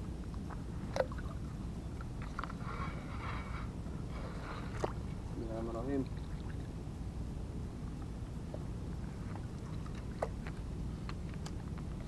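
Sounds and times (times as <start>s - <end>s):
steady low rumble: 0.0s - 12.0s
faint water splashing: 0.4s - 7.1s, 7.8s - 12.0s.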